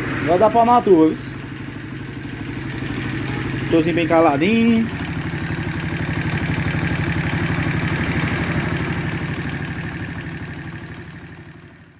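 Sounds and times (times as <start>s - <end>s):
small motorcycle engine idling: 0.0s - 11.9s.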